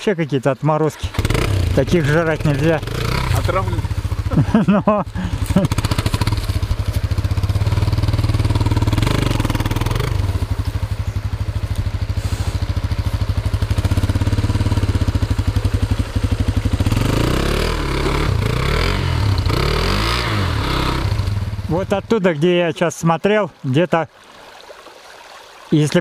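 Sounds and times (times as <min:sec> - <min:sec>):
motorcycle engine revving: 0:01.0 - 0:22.2.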